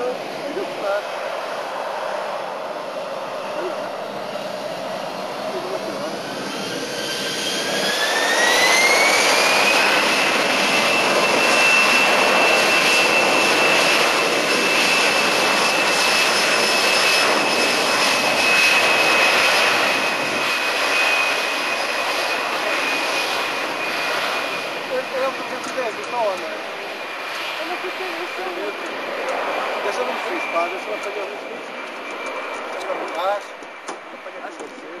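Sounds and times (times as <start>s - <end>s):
jet engines spooling up: 0.1s - 35.0s.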